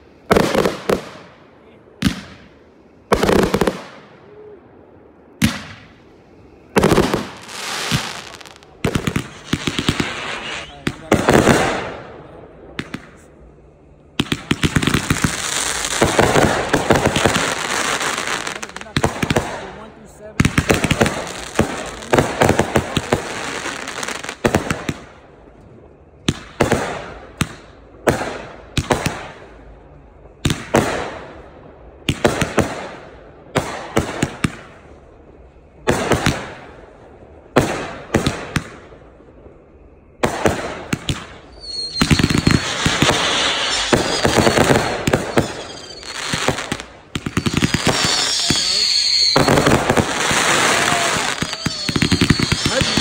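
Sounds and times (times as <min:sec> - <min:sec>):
fireworks bangs with crackling: 0:00.0 - 0:04.4, 0:05.3 - 0:13.3, 0:14.1 - 0:53.0.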